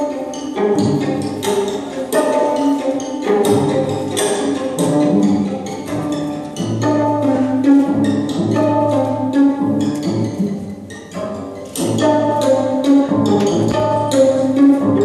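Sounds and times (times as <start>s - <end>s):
orchestral music with strings: 0.0s - 15.0s.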